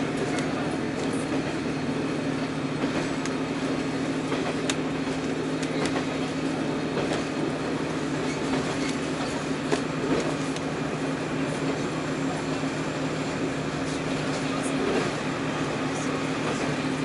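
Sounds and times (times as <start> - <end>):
rail noise: 0.0 - 17.0
railcar engine drone: 0.0 - 17.0.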